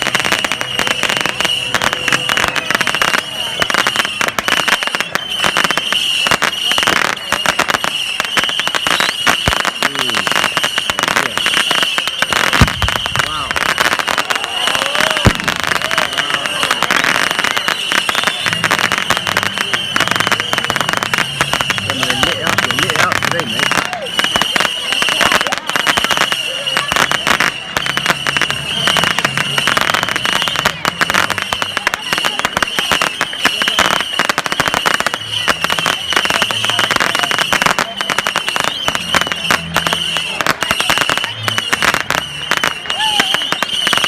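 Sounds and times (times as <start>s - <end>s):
fireworks crackling: 0.0s - 44.0s
high whistle: 0.0s - 44.0s.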